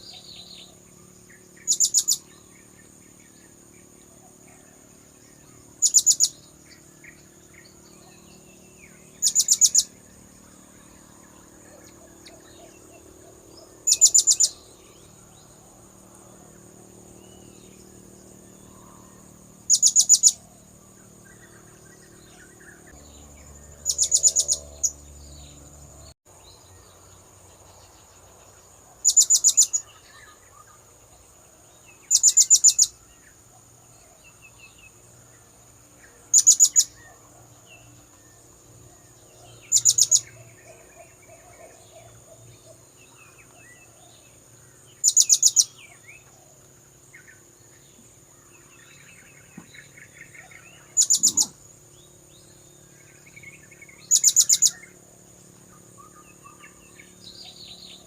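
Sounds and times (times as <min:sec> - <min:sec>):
steady high-pitched whine: 0:00.0 - 0:58.0.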